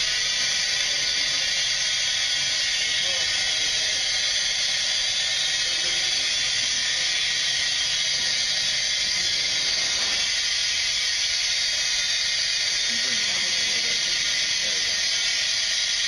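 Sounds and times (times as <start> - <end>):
gas hissing through a tube: 0.0 - 16.0.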